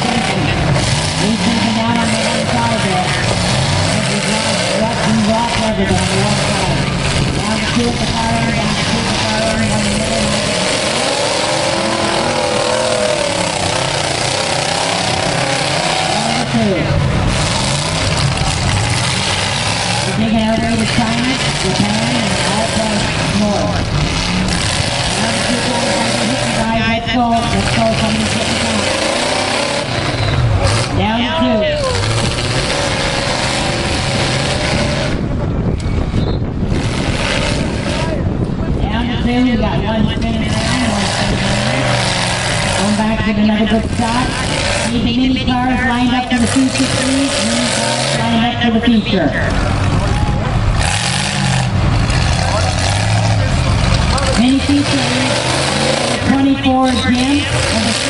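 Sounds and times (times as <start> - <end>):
car engines revving: 0.0 - 58.0
dense rushing noise: 0.0 - 58.0.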